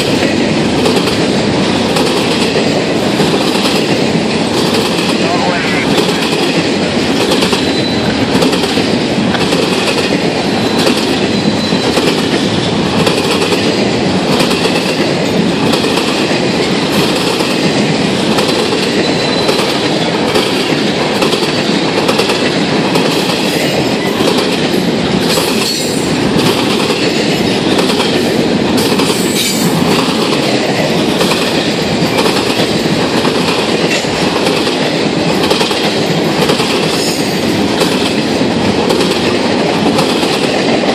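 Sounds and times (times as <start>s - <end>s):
train wheels clattering over rails: 0.0s - 5.2s, 6.1s - 40.9s
train rolling rumble: 0.0s - 40.9s.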